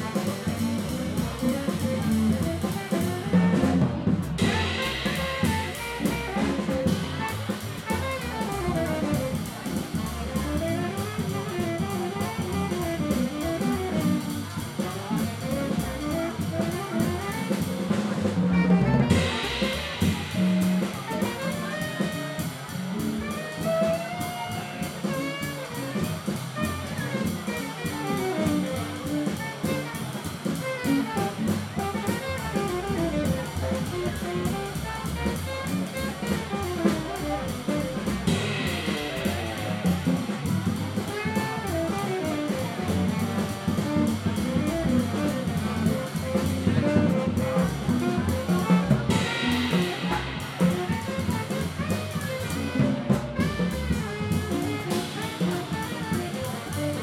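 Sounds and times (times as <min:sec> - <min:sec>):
drum kit: 0:00.0 - 0:57.0
upright double bass: 0:00.0 - 0:57.0
saxophone melody: 0:02.3 - 0:09.4, 0:10.5 - 0:14.9, 0:15.5 - 0:22.4, 0:23.3 - 0:34.4, 0:35.1 - 0:47.6, 0:49.1 - 0:50.4, 0:51.0 - 0:51.9, 0:54.5 - 0:57.0.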